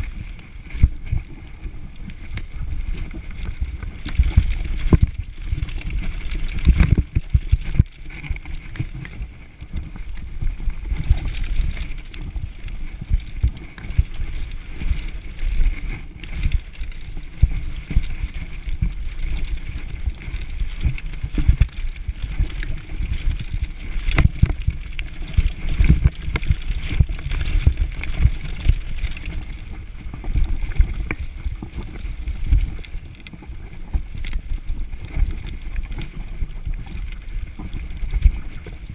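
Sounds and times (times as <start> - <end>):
bike tyres rolling on dirt: 0.0 - 38.9
wind buffeting microphone: 0.0 - 38.9.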